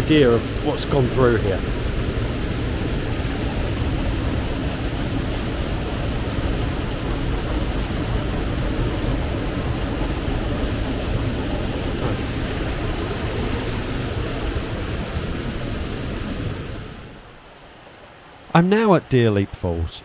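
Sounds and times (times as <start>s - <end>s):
stream water rushing: 0.0s - 19.9s.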